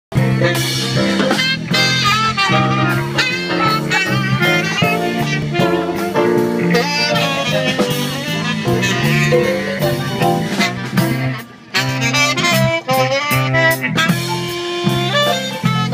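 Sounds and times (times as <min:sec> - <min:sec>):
drums: 0:00.1 - 0:15.9
electric bass: 0:00.1 - 0:15.9
tenor saxophone melody: 0:00.2 - 0:15.9.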